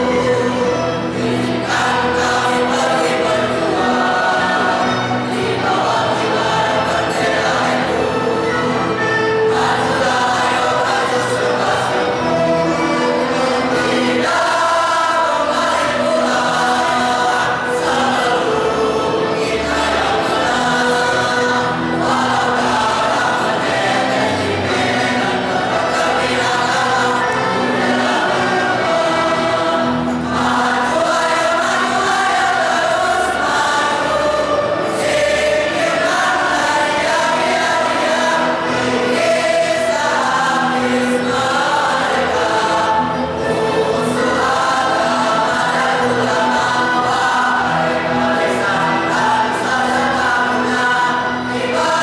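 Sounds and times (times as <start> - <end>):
choir singing: 0.0 - 52.0.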